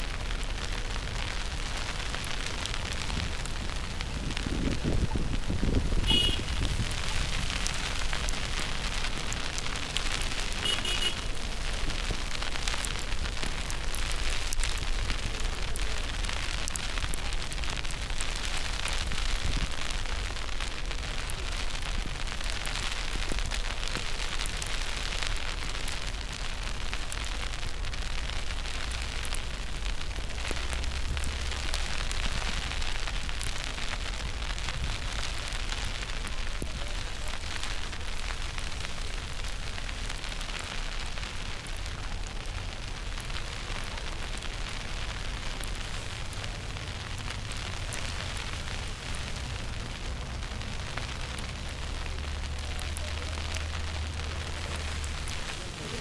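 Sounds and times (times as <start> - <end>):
snow or sleet pattering: 0.0 - 56.0
wind rumble on microphone: 0.0 - 56.0.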